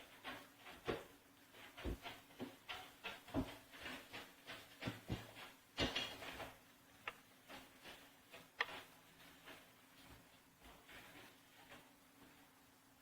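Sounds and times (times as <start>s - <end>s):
objects knocking and scraping: 0.0s - 12.0s.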